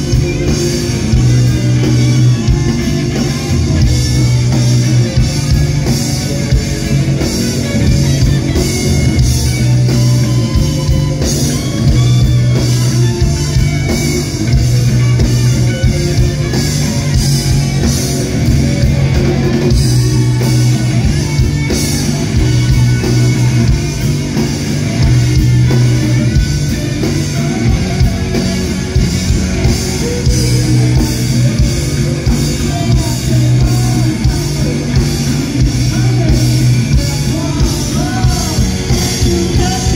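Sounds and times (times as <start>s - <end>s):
bass line: 0.0s - 39.9s
drum kit: 0.0s - 39.9s
electric guitars: 0.0s - 39.9s.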